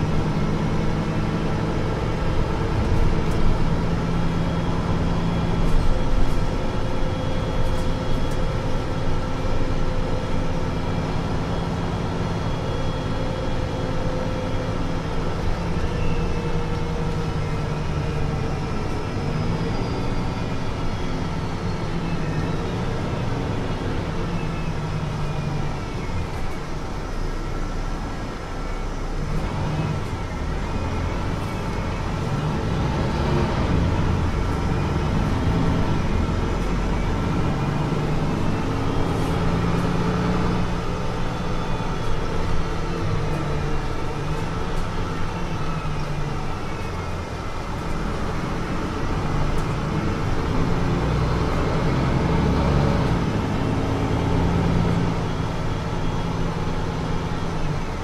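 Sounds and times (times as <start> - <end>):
bus engine with rising whine: 0.0 - 58.0.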